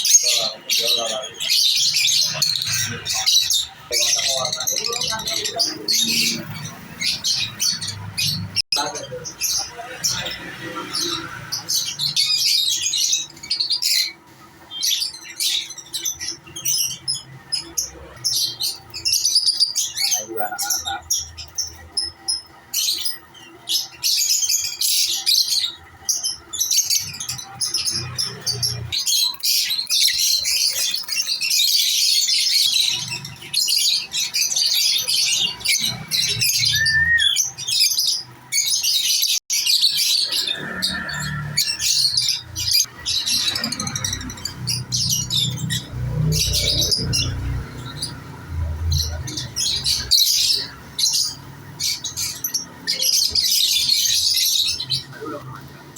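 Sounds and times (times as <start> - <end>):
lovebirds chattering and squawking: 0.0 - 55.9.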